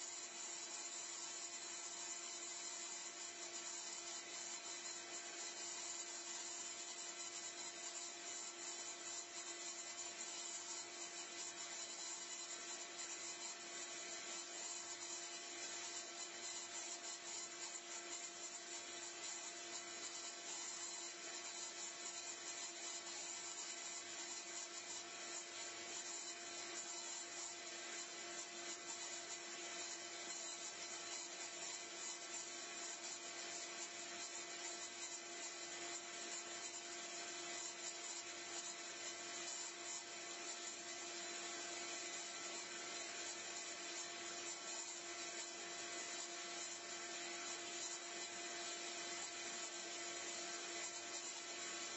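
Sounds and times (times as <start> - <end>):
small electric motor whine: 0.0 - 51.9.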